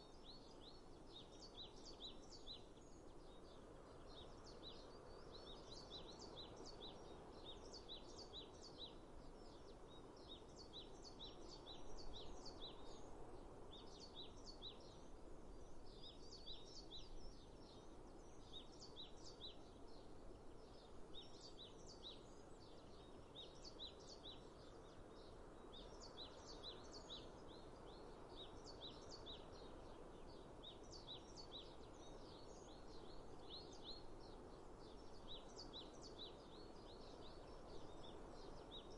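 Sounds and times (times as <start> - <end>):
low outdoor hiss: 0.0 - 38.9
small birds chirping: 0.0 - 38.9.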